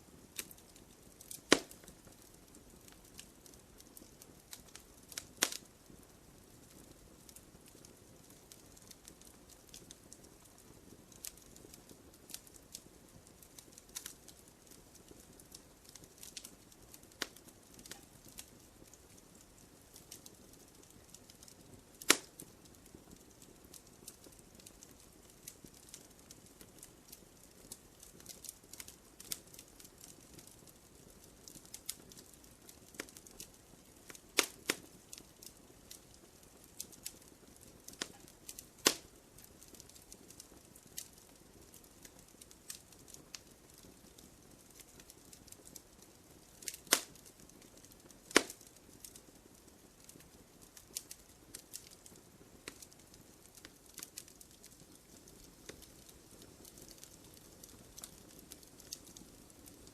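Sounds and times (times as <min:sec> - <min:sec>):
burning logs popping: 0:00.0 - 0:59.9
wood fire crackling: 0:00.0 - 0:59.9.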